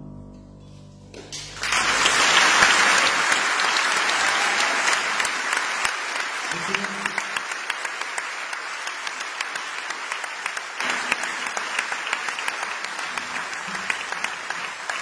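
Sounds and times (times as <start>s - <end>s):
audience applauding: 1.2s - 15.0s.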